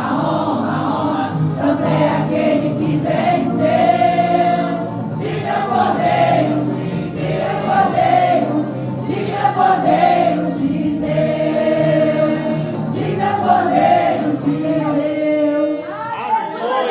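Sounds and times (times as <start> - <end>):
church choir singing: 0.0 - 16.0.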